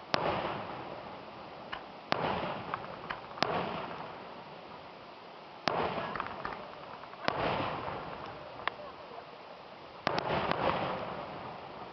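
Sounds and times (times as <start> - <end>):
fireworks bangs: 0.0 - 4.6, 5.6 - 9.2, 10.0 - 11.9
firework crack: 0.0 - 11.9.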